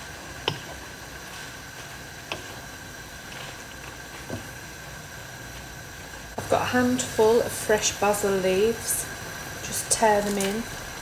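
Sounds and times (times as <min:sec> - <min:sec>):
simmering pan hiss: 0:00.0 - 0:11.0.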